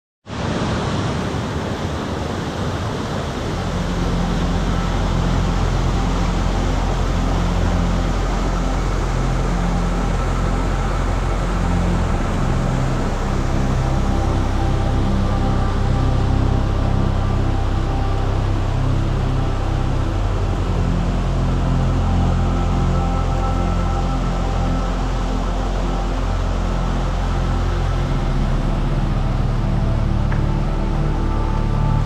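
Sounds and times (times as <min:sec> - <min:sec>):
falling water rushing: 0:00.3 - 0:32.0
low sustained music notes: 0:02.4 - 0:32.0.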